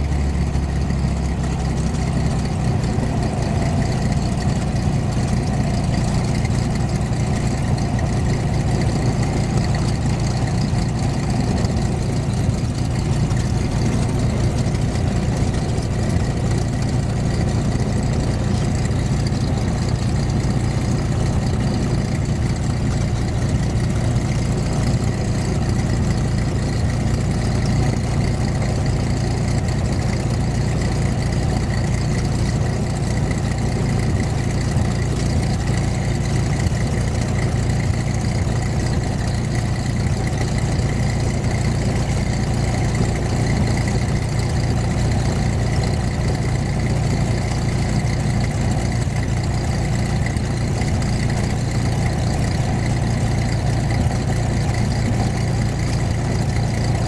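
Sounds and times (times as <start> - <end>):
light aircraft engine humming: 0.0 - 57.0.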